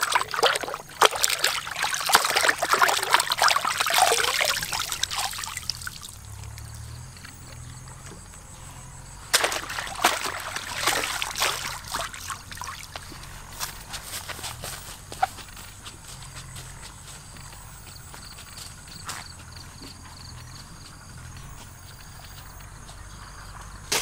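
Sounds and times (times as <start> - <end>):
water splashing and trickling: 0.0 - 19.7.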